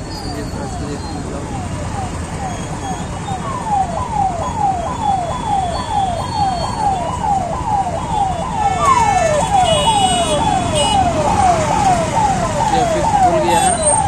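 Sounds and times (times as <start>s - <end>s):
ambulance siren sweeping: 0.0s - 14.0s
steady high siren tone: 0.0s - 14.0s
traffic noise: 0.0s - 14.0s.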